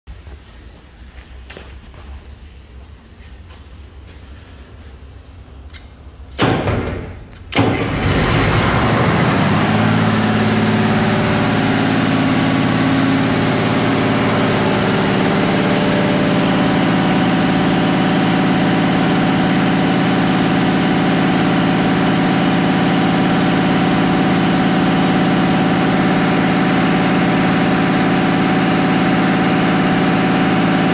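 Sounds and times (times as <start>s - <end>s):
diesel engine starting and running: 4.1s - 30.9s.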